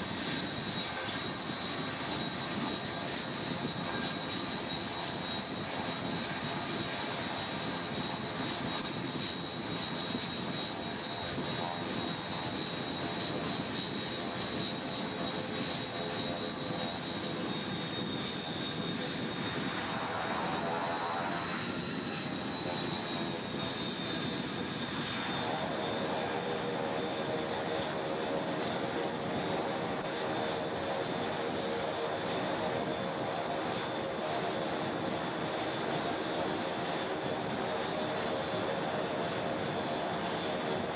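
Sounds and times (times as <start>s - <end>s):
turboprop engine whining: 0.0s - 40.9s.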